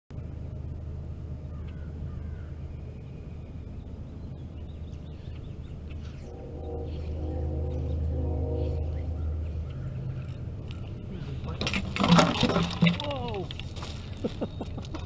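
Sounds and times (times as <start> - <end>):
steady low rumble: 0.1 - 15.0
birds calling faintly: 0.2 - 11.6, 13.1 - 15.0.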